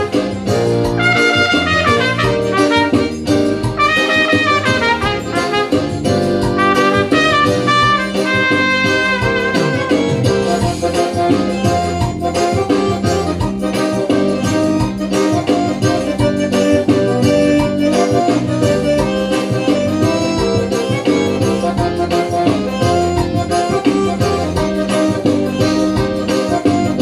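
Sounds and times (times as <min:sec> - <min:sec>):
backing music track: 0:00.0 - 0:27.0
trumpet melody: 0:00.0 - 0:27.0.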